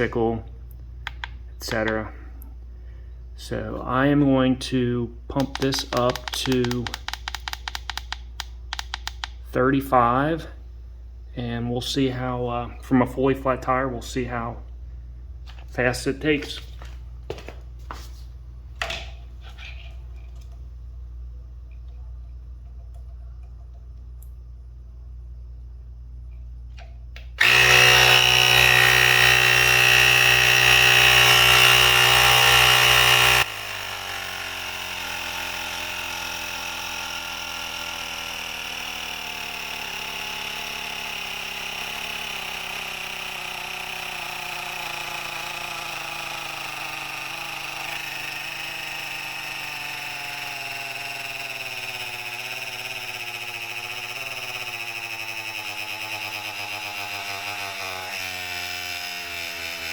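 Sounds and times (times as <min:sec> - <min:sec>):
tire inflator compressor running: 0:00.0 - 0:21.4, 0:25.8 - 0:59.9.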